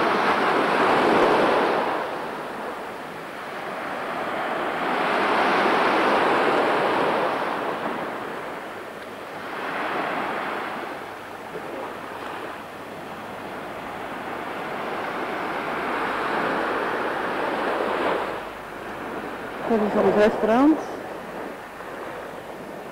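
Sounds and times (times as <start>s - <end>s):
small waves breaking on a beach: 0.0s - 22.9s.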